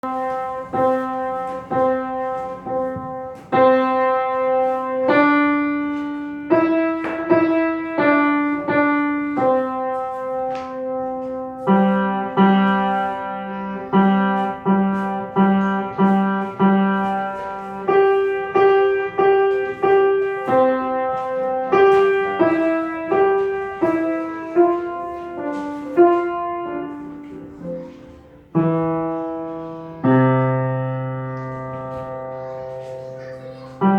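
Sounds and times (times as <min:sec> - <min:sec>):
solo piano melody: 0:00.0 - 0:33.9.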